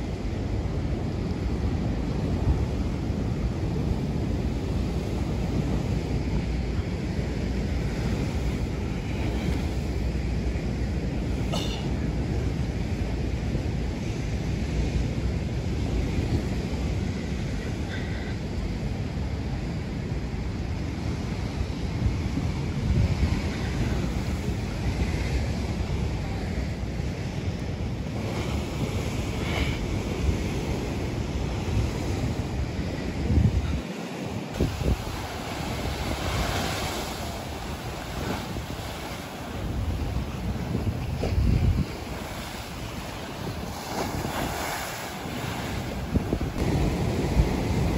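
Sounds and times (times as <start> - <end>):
sea waves washing ashore: 0.0 - 47.9
wind buffeting microphone: 0.0 - 47.9.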